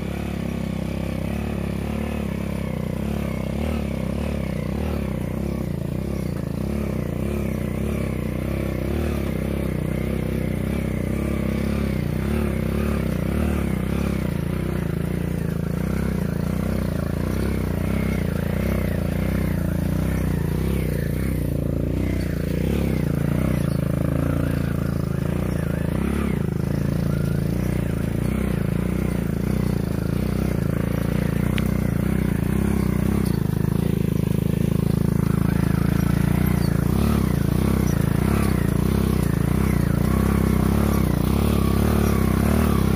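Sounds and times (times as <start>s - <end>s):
small motorcycle engine running: 0.0s - 42.9s.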